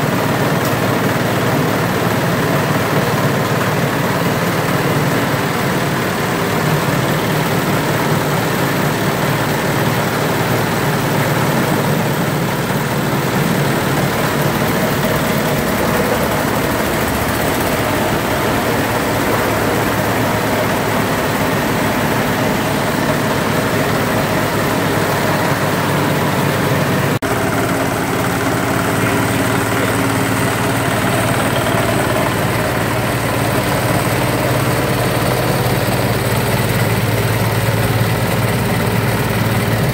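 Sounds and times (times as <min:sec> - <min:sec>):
diesel engines running: 0:00.0 - 0:39.9
chopper shredding grass: 0:00.1 - 0:39.9.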